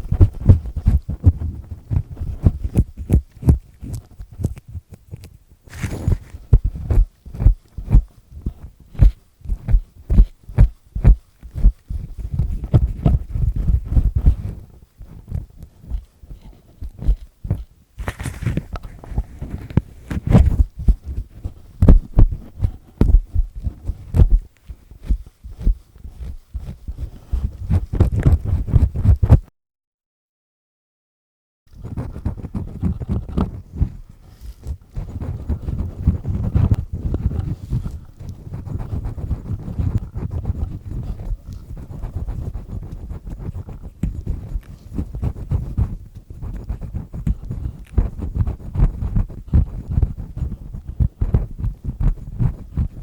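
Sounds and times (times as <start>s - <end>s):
earpick scraping inside ear: 0.0s - 29.4s, 31.7s - 53.0s.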